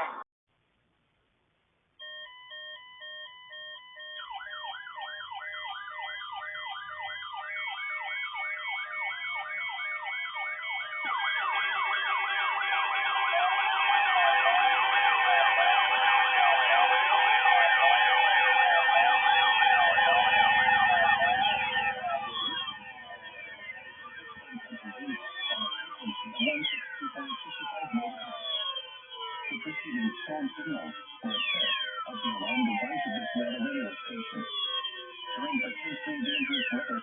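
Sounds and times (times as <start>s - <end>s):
pulsed electronic beeps: 2.0s - 37.0s
rising and falling alarm wails: 2.0s - 37.0s.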